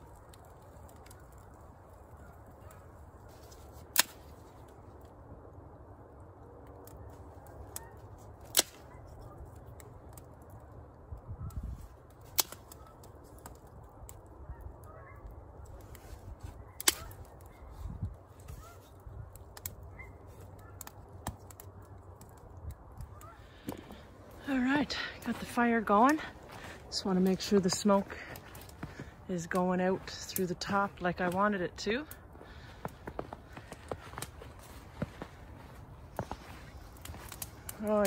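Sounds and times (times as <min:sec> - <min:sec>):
campfire crackling: 0:00.0 - 0:38.0
wood popping in fire: 0:00.0 - 0:38.0.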